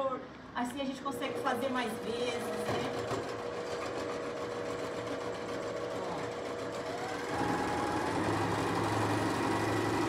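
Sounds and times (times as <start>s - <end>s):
sewing machine running: 1.1s - 10.0s.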